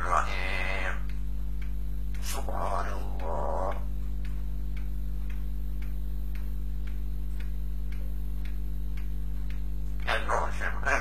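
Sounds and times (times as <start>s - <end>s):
faint regular ticking: 0.0s - 11.0s
low electrical hum: 0.0s - 11.0s.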